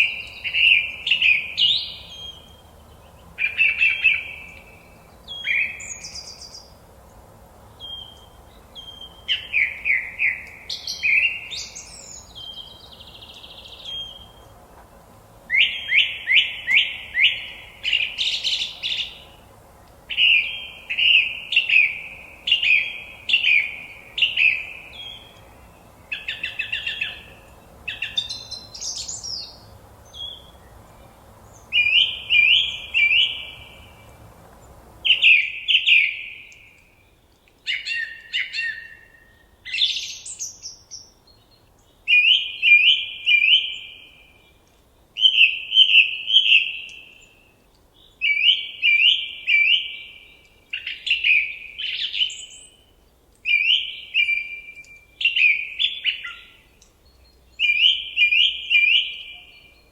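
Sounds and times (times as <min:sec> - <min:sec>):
faint background hiss: 0:00.0 - 0:59.9
songbird chirping: 0:00.0 - 0:59.9.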